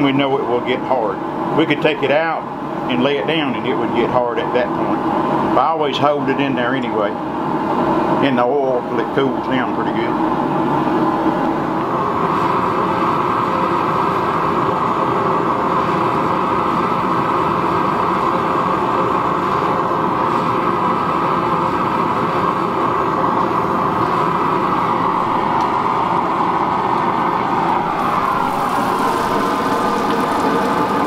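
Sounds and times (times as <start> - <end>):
gas forge burner rushing: 0.0 - 31.0.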